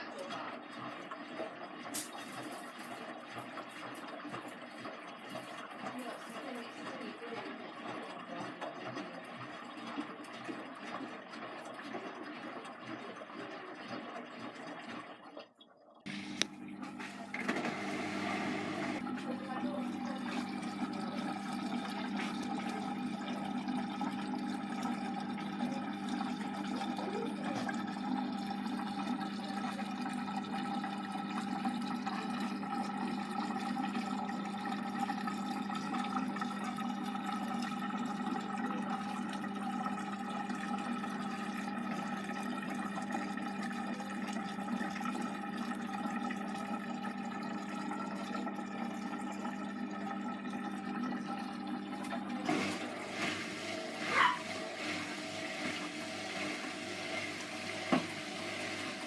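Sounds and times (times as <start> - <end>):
washing machine hum: 0.0 - 59.0
water rushing through washing machine: 0.0 - 59.0.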